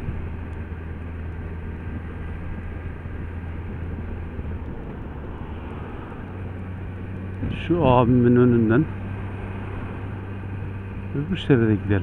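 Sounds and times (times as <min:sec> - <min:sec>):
motorcycle engine cruising: 0:00.0 - 0:12.0
road noise: 0:00.0 - 0:12.0.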